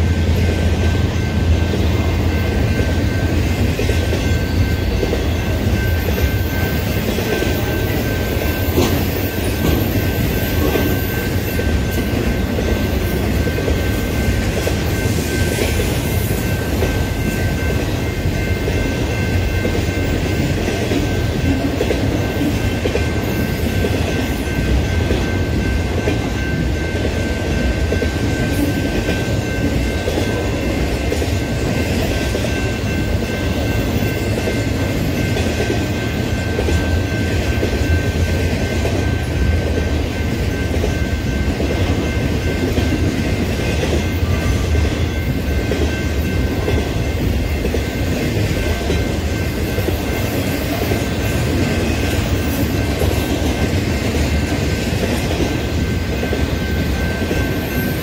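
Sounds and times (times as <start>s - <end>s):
freight train wheels clattering on rails: 0.0s - 58.0s.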